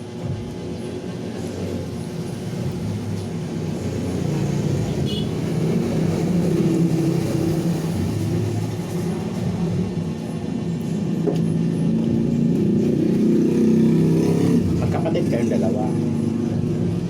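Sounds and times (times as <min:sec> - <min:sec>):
vehicle engine running: 0:00.3 - 0:17.0.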